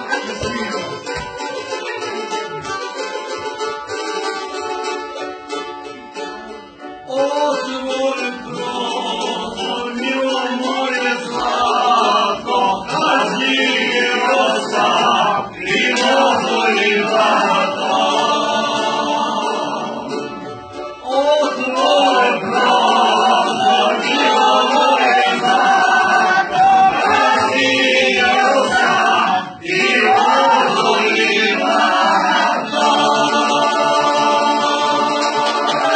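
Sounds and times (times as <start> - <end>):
group of voices singing: 0.0 - 3.4, 7.0 - 35.9
string instrument accompaniment: 0.0 - 35.9.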